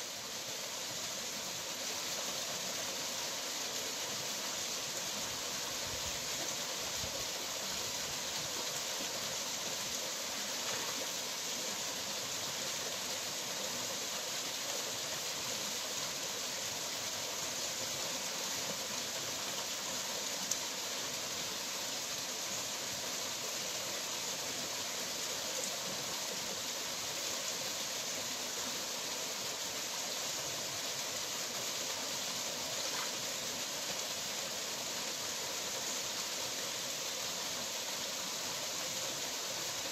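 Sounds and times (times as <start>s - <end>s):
waterfall pouring over rocks: 0.0s - 39.9s.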